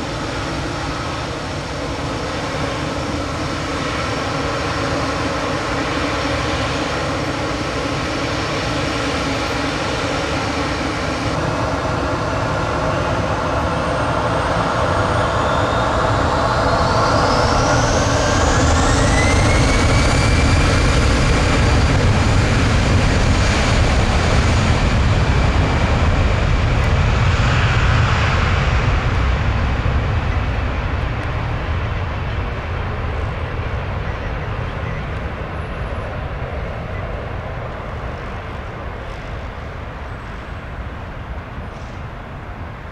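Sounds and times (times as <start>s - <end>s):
jet engines spooling up: 0.0s - 40.6s.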